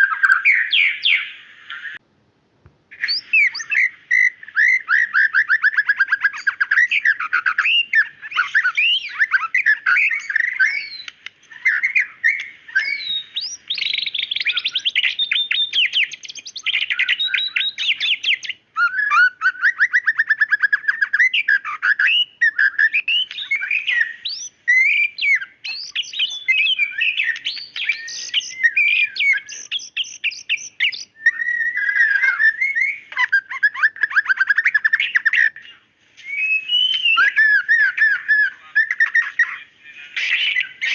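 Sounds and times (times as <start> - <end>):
bird singing whistles and trills: 0.0 - 2.0, 2.9 - 40.9.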